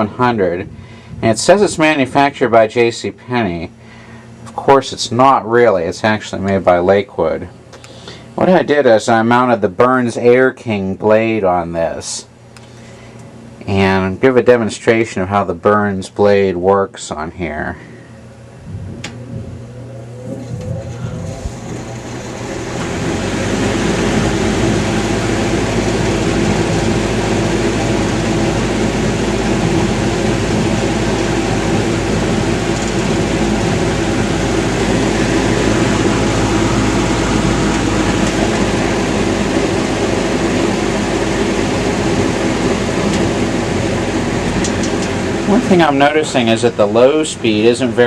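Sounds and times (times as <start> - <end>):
fan motor hum: 0.0 - 48.0.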